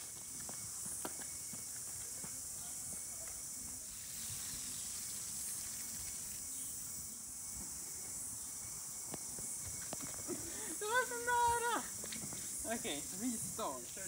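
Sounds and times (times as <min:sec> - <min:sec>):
high-pitched insect buzzing: 0:00.1 - 0:14.0.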